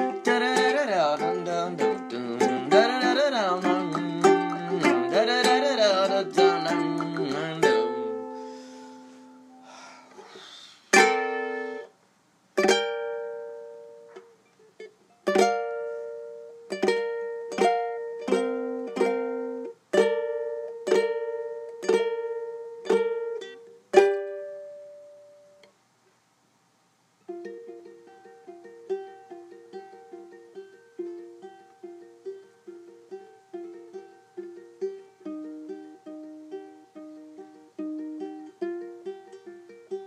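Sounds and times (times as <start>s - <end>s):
ukulele plucked notes: 0.0s - 9.6s, 10.9s - 11.9s, 12.6s - 25.7s, 27.2s - 40.0s
ukulele strummed chords: 0.0s - 9.7s, 10.9s - 11.9s, 12.6s - 25.7s, 27.2s - 40.0s.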